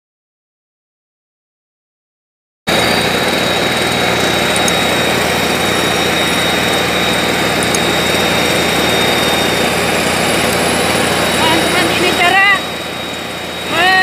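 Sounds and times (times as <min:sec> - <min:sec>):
high whine: 0:02.7 - 0:14.0
two-stroke engine running: 0:02.7 - 0:14.0.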